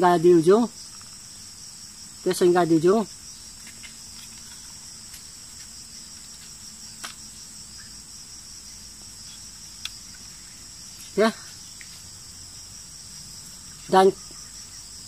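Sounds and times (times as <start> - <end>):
shrill insect chorus: 0.0 - 15.0.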